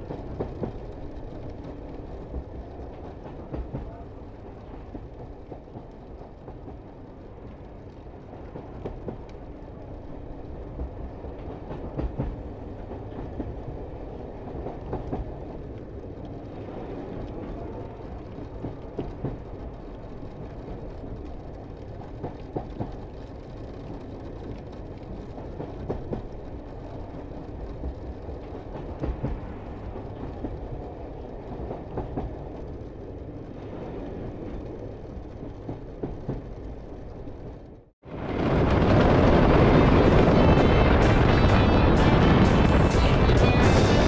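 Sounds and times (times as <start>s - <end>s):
train rumbling with clicks: 0.0s - 44.0s.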